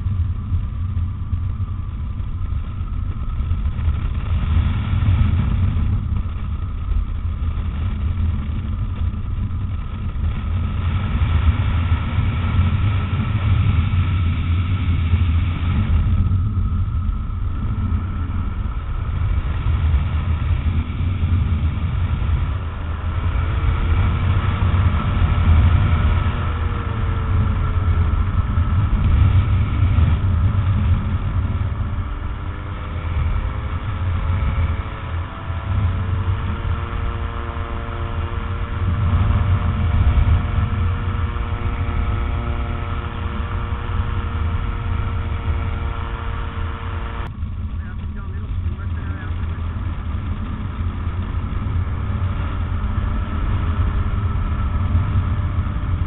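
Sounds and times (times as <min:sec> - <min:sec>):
aircraft engine droning: 0:00.0 - 0:56.0.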